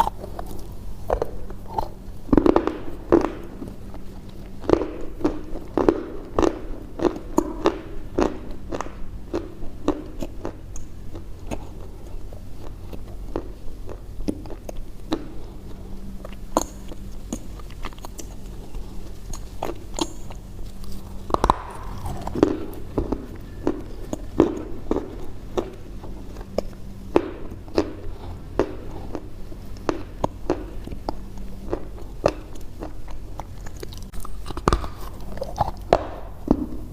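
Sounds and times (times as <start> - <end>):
crunchy food being chewed: 0.0 - 36.9
faint low hum: 0.0 - 36.9.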